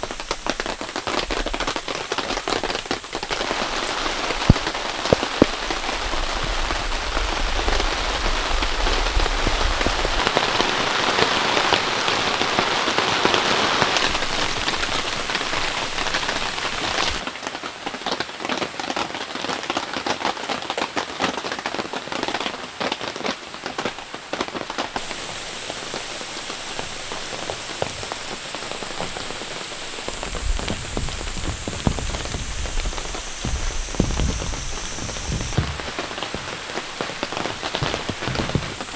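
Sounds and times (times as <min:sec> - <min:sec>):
heavy rain falling: 0:00.0 - 0:17.4, 0:23.4 - 0:38.9.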